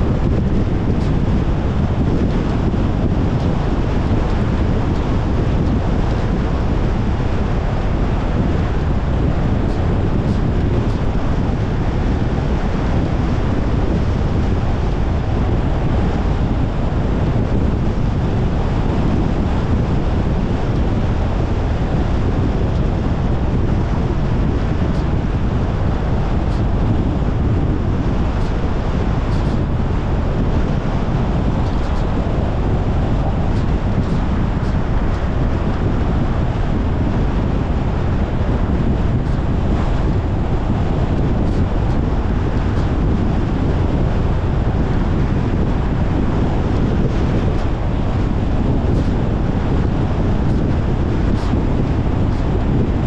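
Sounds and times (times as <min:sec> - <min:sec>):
tyre and wind rush: 0:00.0 - 0:53.0.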